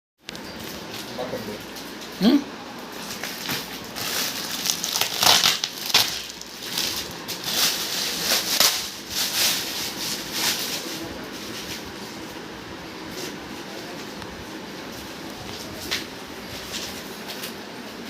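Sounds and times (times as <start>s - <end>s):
cardboard and plastic rustling: 2.8s - 18.0s.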